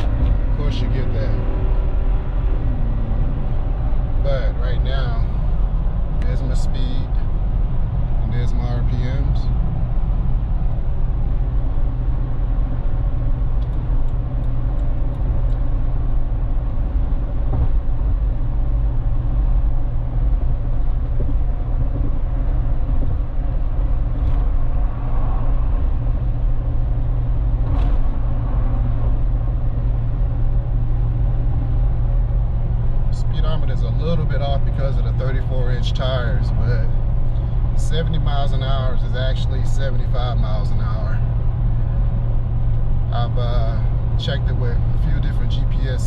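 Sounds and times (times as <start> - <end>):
car engine low hum: 0.0 - 46.0
tyre and road noise: 0.0 - 46.0.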